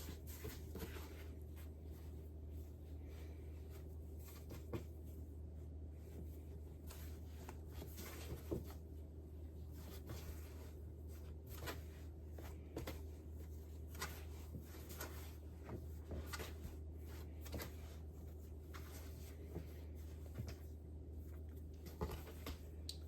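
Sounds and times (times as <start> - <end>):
dough being handled on counter: 0.0 - 22.9
steady low hum: 0.0 - 23.0.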